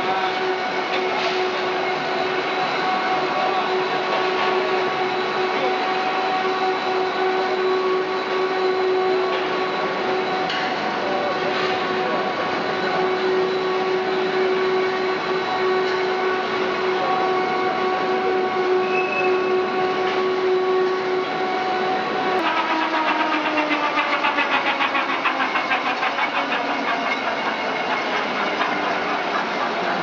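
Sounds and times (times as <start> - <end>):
wire production machine whine: 0.0 - 30.0.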